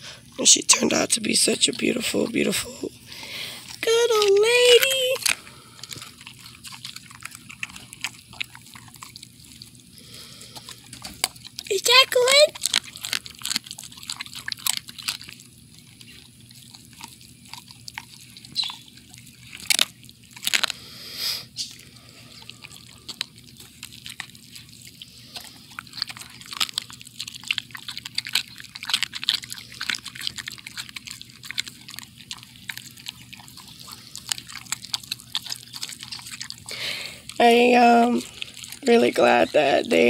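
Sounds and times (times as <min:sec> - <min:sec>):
dog chewing meat and bone: 0:00.0 - 0:40.0.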